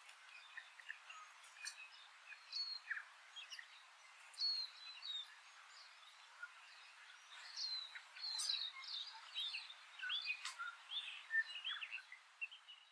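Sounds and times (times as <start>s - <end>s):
faint outdoor hiss: 0.0s - 12.9s
small birds chirping and whistling: 0.1s - 12.9s.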